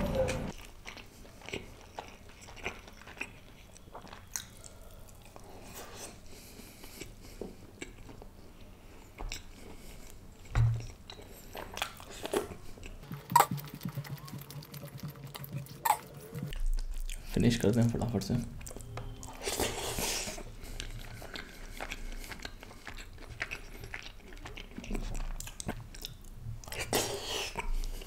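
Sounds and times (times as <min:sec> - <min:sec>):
chewing and wet mouth sounds: 0:00.1 - 0:28.0
rice and gravy squishing: 0:00.5 - 0:28.0.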